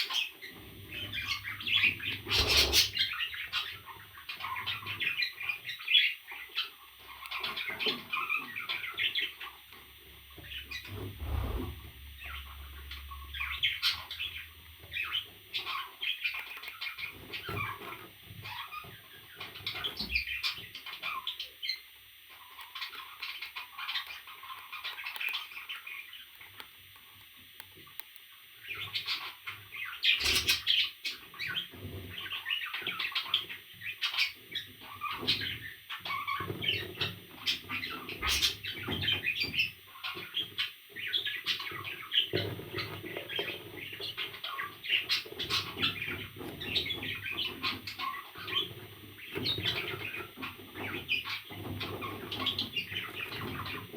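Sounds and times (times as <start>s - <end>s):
parrots chirping and squawking: 0.0s - 26.6s, 28.6s - 53.9s.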